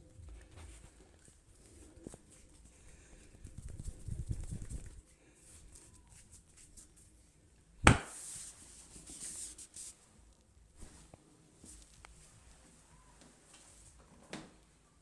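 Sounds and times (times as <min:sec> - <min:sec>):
hands rubbing hair and skin: 0:00.4 - 0:07.2, 0:07.9 - 0:10.1, 0:10.8 - 0:13.9.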